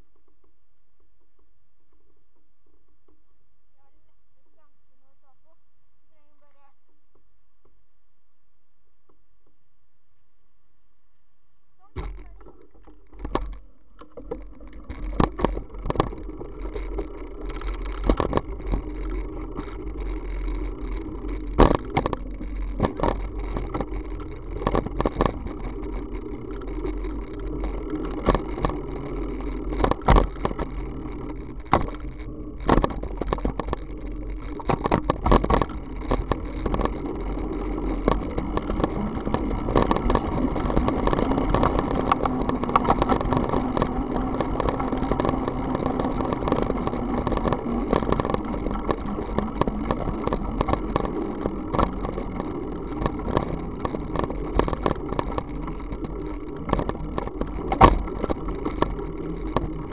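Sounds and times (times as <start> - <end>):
bicycle rolling on wet asphalt: 11.8 - 59.9
camera knocks and rattles: 12.0 - 59.9.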